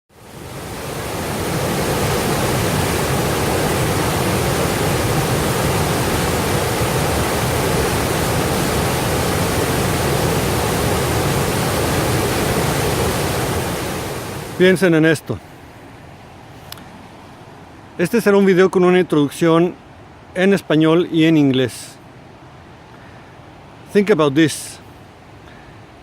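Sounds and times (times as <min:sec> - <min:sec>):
river water rushing: 0:00.1 - 0:26.0.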